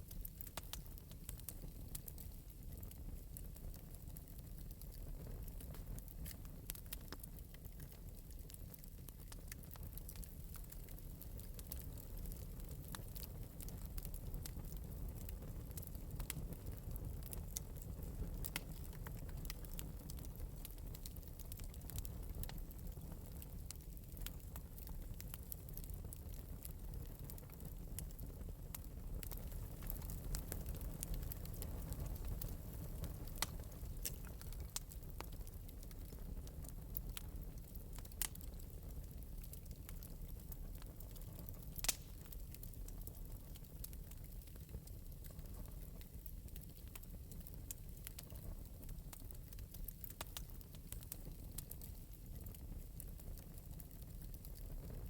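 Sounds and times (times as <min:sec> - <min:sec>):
fire crackling and popping: 0:00.0 - 0:55.0
fire rumbling: 0:00.0 - 0:55.0.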